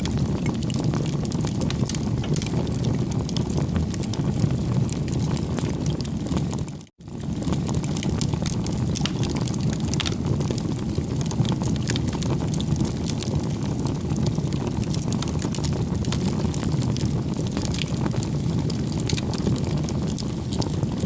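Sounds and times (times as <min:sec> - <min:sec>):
bonfire flames rushing: 0:00.0 - 0:21.0
burning wood crackling and popping: 0:00.0 - 0:21.0.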